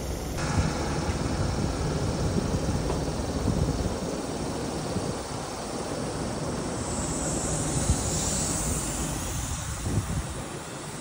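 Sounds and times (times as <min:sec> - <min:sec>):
high hiss: 0:00.0 - 0:11.0
train wheels rumbling on rail: 0:00.0 - 0:11.0.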